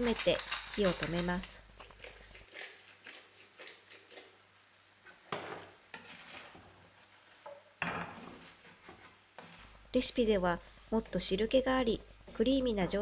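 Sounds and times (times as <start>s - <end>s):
wooden spatula stirring in pan: 0.0s - 13.0s.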